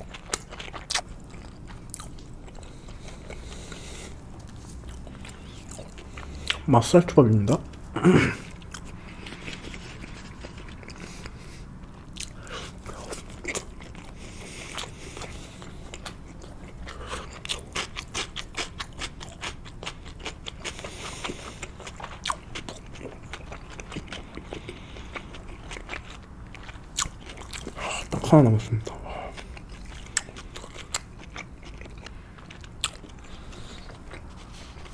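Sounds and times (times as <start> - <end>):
wet chewing clicks and smacks: 0.0 - 6.7, 8.5 - 34.9
steady low hum: 0.0 - 34.9.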